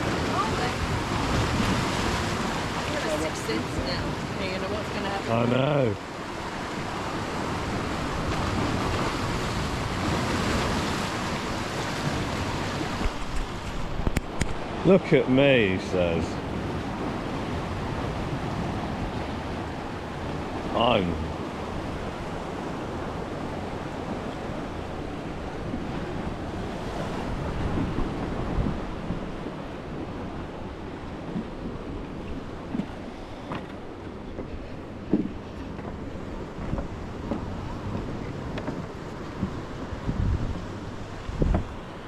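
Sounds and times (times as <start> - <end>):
sea surf rushing: 0.0 - 42.0
wind on microphone: 0.0 - 42.0.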